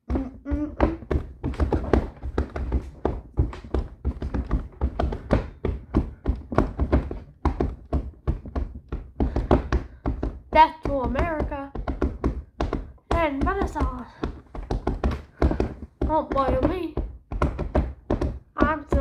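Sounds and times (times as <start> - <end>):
knocking on hard surface: 0.1 - 19.0.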